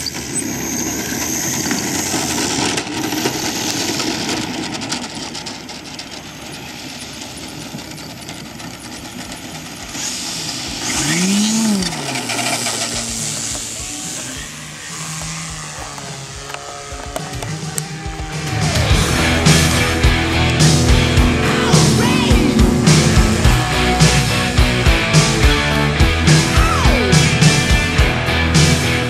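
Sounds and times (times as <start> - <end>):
model plane engine running: 0.0 - 29.0.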